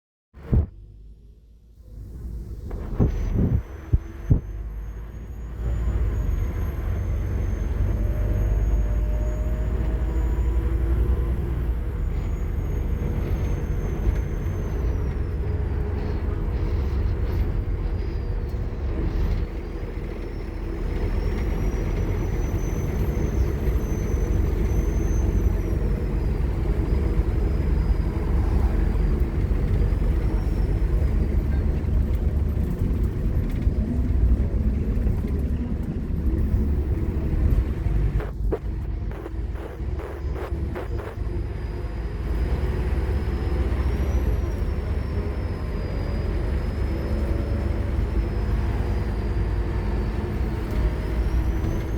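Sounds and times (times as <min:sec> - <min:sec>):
bus diesel engine pulling hard: 0:00.4 - 0:51.9
high engine whine: 0:00.4 - 0:51.9.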